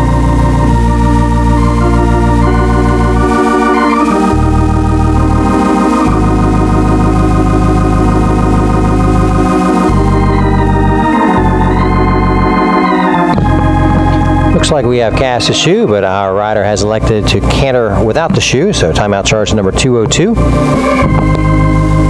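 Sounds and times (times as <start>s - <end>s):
organ music: 0.0s - 22.0s.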